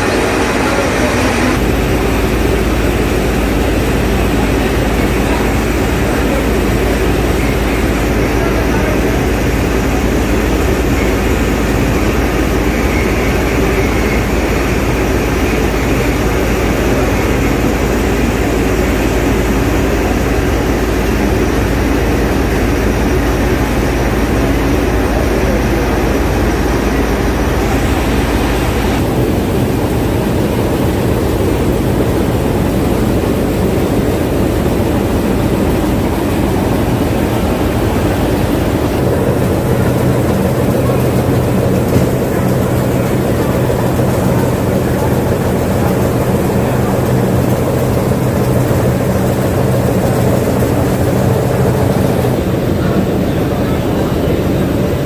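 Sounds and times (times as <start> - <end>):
machinery droning: 0.0 - 55.0.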